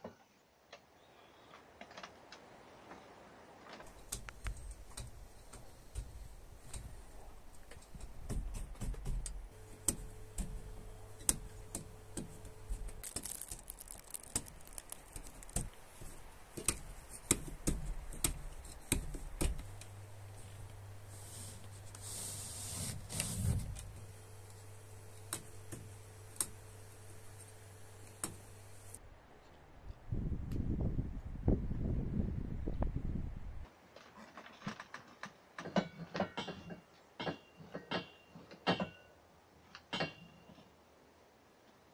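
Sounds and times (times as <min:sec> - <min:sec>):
faint steady hum: 0:00.1 - 0:33.7.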